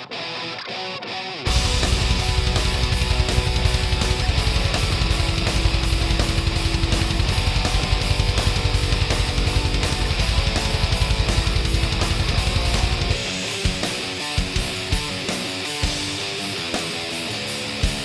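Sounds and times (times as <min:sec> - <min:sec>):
rock music with distorted guitar: 0:00.0 - 0:18.0.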